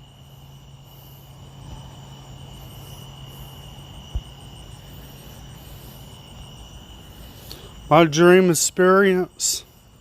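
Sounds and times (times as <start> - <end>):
high-pitched insect trill: 0.0 - 10.0
low steady hum: 0.0 - 10.0.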